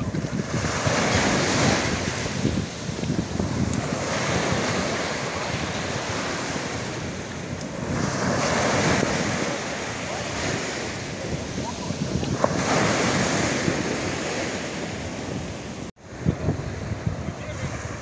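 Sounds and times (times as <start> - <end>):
small waves breaking on beach: 0.0 - 18.0
wind buffeting microphone: 0.0 - 18.0.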